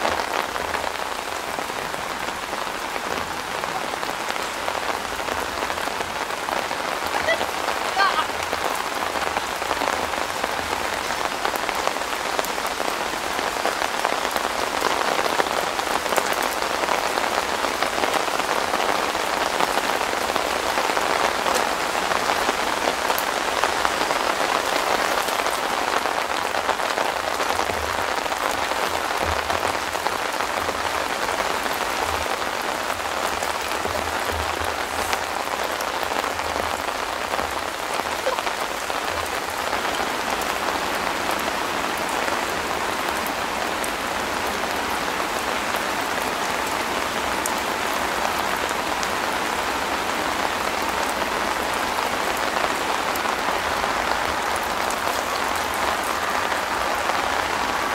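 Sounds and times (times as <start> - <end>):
rain on a tent: 0.0 - 57.9.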